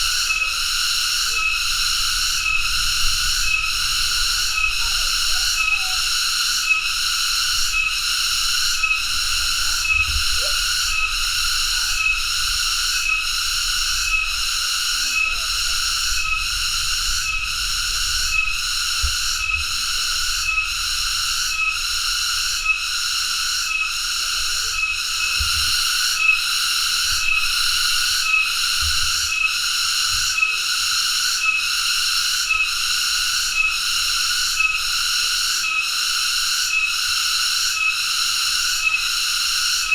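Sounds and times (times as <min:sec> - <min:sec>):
cicada buzzing drone: 0:00.0 - 0:39.9.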